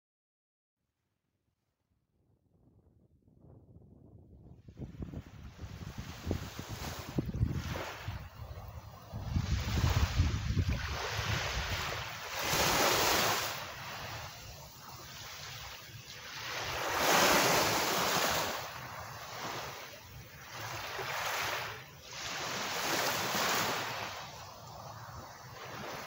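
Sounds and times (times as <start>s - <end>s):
wind rumble on microphone: 2.3s - 26.0s
small waves breaking on sand: 4.8s - 26.0s.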